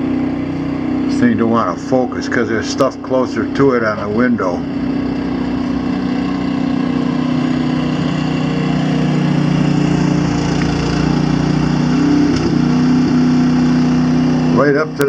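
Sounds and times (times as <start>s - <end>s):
snowblower engine running: 0.0s - 15.0s.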